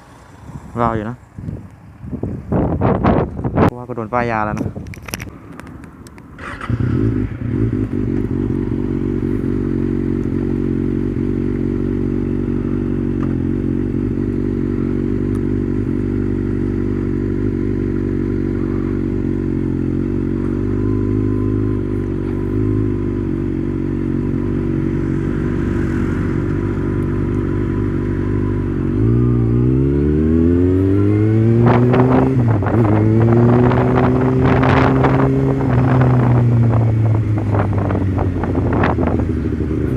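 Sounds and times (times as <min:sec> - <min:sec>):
motorcycle engine accelerating: 0:04.4 - 0:39.9.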